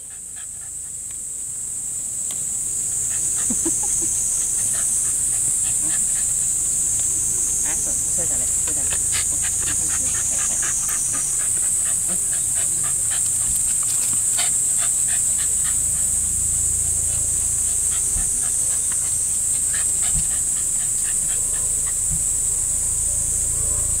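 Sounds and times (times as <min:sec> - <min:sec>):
dogs panting: 0:00.0 - 0:01.3, 0:02.4 - 0:23.1
high-pitched drone: 0:04.2 - 0:24.0.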